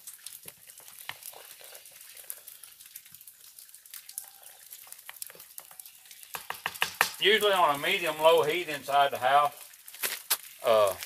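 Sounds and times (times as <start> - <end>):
coffee pot bubbling: 0.0 - 11.0.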